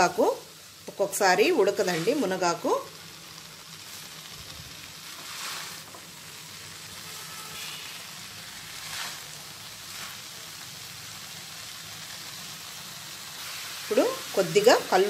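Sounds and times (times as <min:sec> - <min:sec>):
leaves sizzling in a pan: 0:00.0 - 0:15.0.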